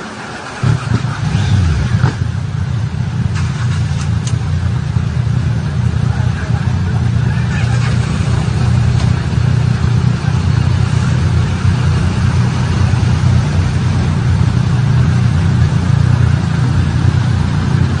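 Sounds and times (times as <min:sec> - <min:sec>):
car and motorcycle engines idling: 0:00.0 - 0:18.0.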